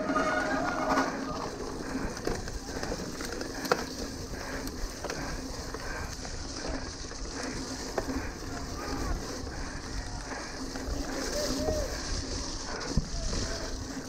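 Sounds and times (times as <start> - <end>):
bike rattling: 0.0 - 14.0
bike tyres on dirt trail: 0.0 - 14.0
clicks and knocks over bumps: 0.8 - 14.0.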